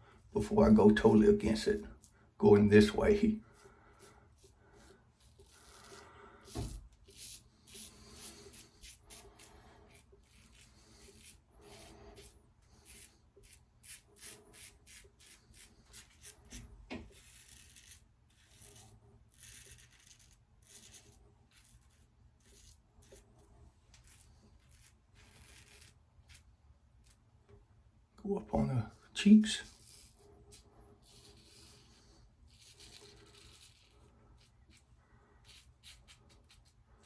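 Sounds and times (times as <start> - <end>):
razor scraping whiskers: 3.5 - 27.2, 29.5 - 36.8.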